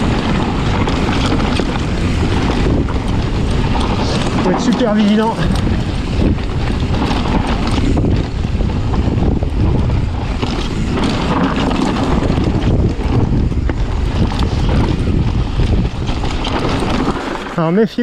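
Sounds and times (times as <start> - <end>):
bike knocking and rattling: 0.0 - 18.0
tyres rumbling over dirt: 0.0 - 18.0
wind buffeting microphone: 0.0 - 18.0.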